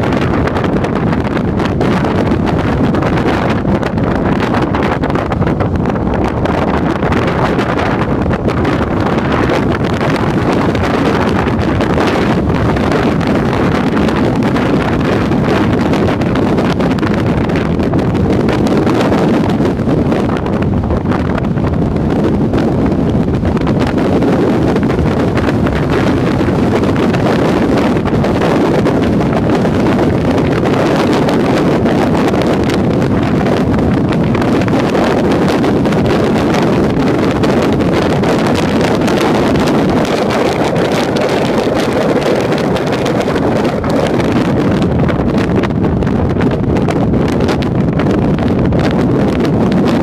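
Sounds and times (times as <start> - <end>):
wind and road noise: 0.0 - 50.0
wind buffeting microphone: 0.0 - 50.0.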